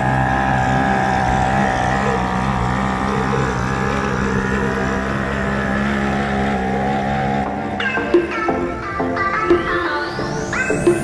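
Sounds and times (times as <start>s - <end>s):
outboard motor running: 0.0s - 9.0s.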